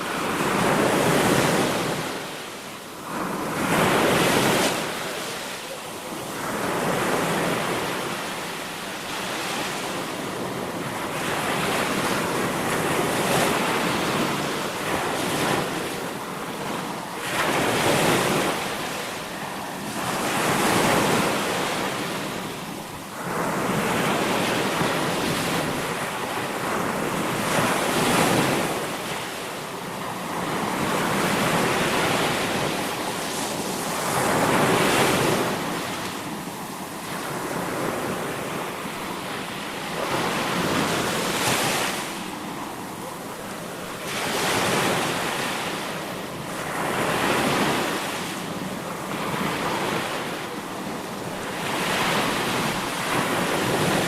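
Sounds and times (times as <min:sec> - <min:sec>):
sea waves breaking: 0:00.0 - 0:54.0.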